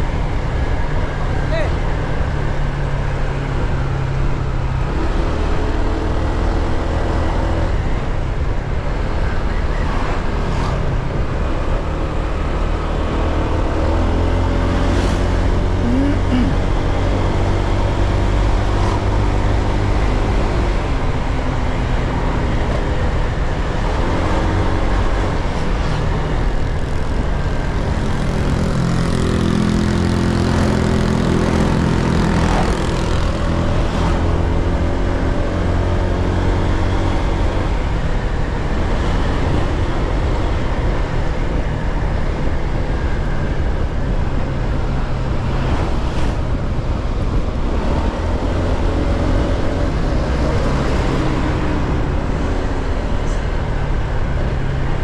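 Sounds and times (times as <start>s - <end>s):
wind and road noise rumble: 0.0s - 55.0s.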